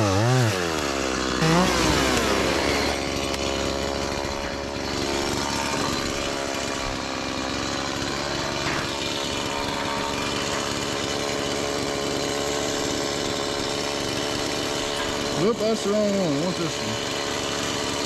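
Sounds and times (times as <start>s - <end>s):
chainsaw engine running: 0.0s - 18.0s.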